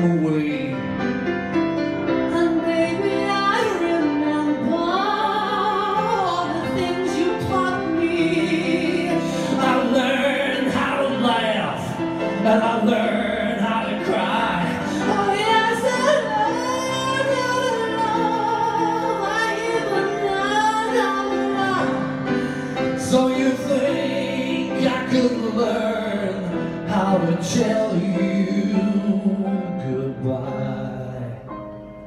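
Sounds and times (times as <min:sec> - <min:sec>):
musical accompaniment: 0:00.0 - 0:32.0
person singing with vibrato: 0:02.0 - 0:31.7.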